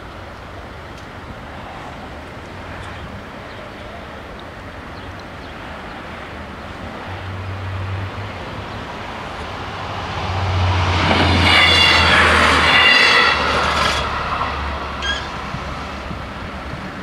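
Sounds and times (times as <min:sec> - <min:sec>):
train engine hum and rolling: 0:00.0 - 0:17.0.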